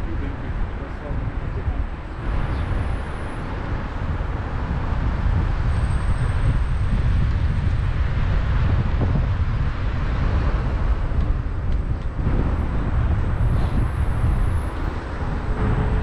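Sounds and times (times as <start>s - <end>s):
city street traffic: 0.0s - 16.0s
wind buffeting microphone: 0.0s - 16.0s.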